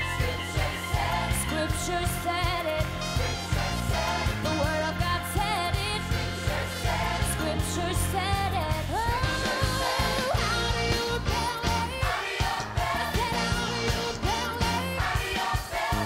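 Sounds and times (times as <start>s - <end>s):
bass and drums beat: 0.0s - 16.0s
voices singing: 0.0s - 16.0s.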